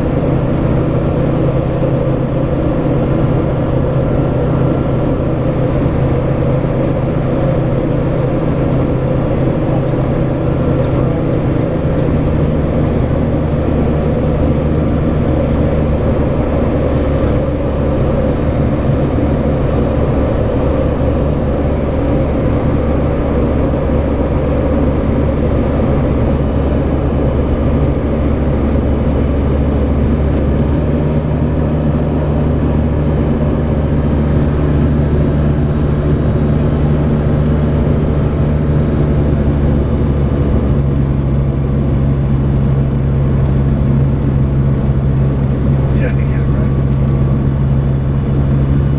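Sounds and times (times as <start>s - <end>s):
aircraft engine and propeller drone: 0.0s - 48.9s.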